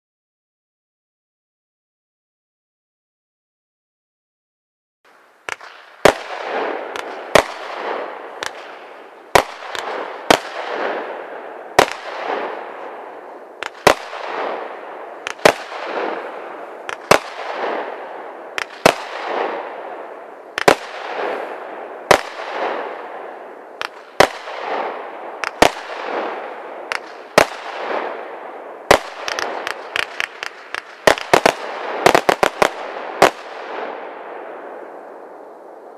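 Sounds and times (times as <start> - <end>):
crackle of bursting stars: 5.1 - 35.9
firework cake firing: 5.4 - 35.9.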